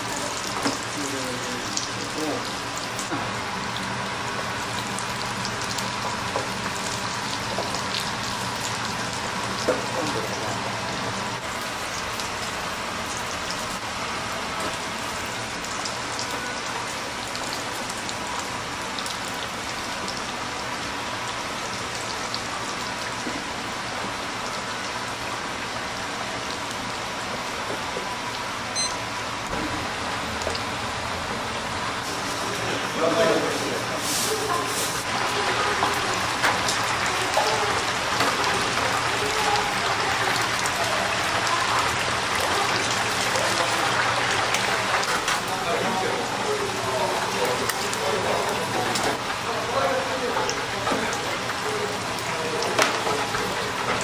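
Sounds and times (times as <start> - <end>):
oil sizzling and crackling: 0.0 - 54.0.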